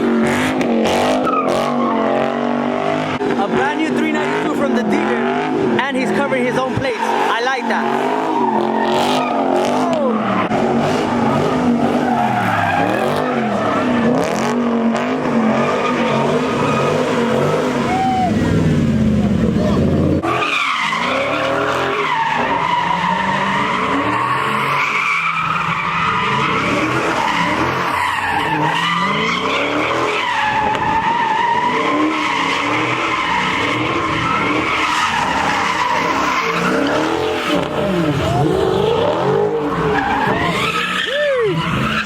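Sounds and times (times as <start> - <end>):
car engine revving: 0.0 - 42.0
car tyres squealing: 0.0 - 42.0.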